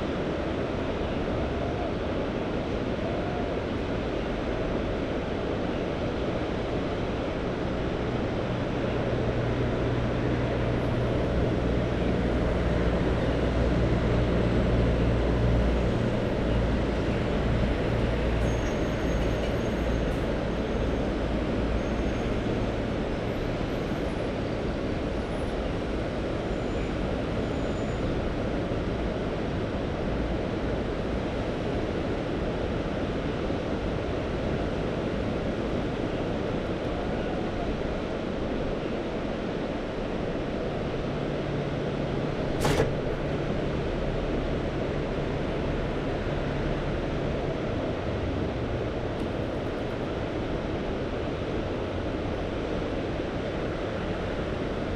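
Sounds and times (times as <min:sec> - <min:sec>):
wind: 0:00.0 - 0:54.9.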